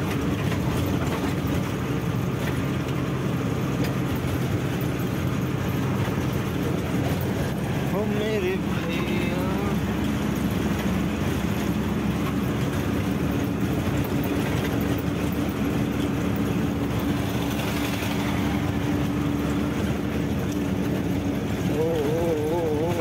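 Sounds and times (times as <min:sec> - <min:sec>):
road noise: 0:00.0 - 0:23.0
truck engine running: 0:00.0 - 0:23.0.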